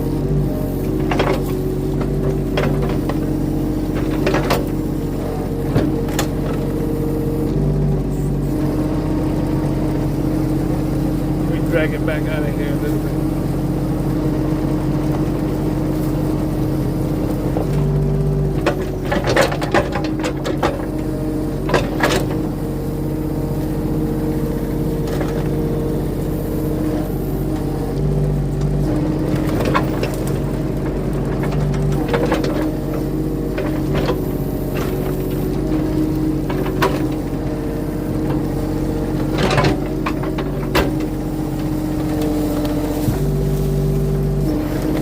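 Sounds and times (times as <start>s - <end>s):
excavator engine running: 0.0s - 45.0s.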